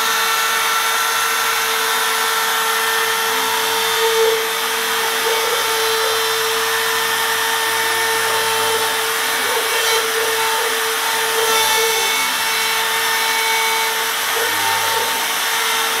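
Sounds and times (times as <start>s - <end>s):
router spindle whining: 0.0s - 16.0s
end-mill cutting with hiss: 1.5s - 16.0s.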